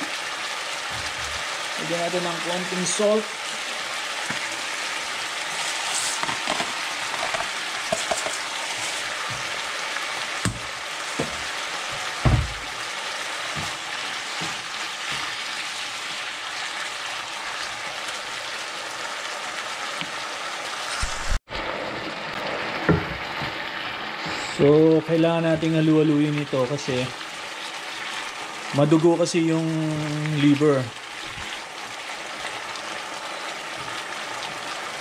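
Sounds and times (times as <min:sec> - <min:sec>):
liver sizzling in a pan: 0:00.0 - 0:35.0.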